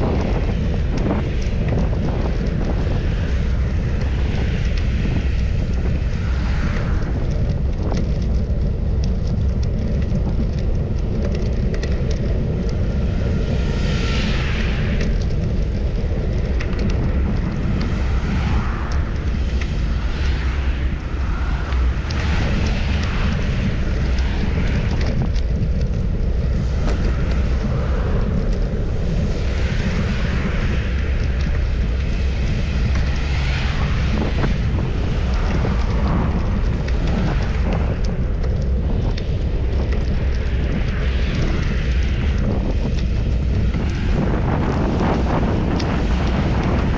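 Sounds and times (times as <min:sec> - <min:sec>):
faint ticks: 0:00.0 - 0:46.9
street and traffic noise: 0:00.0 - 0:46.9
wind buffeting microphone: 0:00.0 - 0:46.9.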